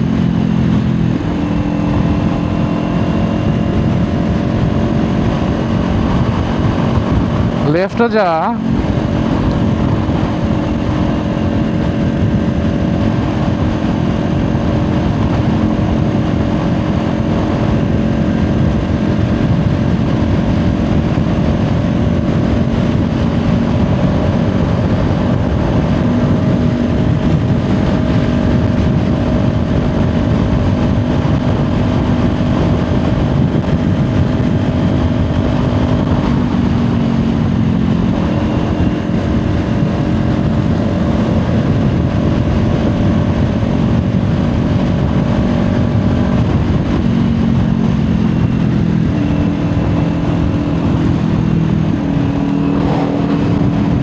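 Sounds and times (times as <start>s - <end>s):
motorcycle engine cruising: 0.0s - 54.0s
wind rush over microphone: 0.0s - 54.0s.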